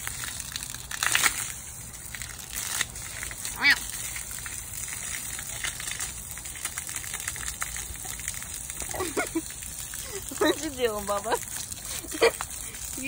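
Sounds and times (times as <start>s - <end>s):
hose water splashing on stone: 0.0s - 13.0s.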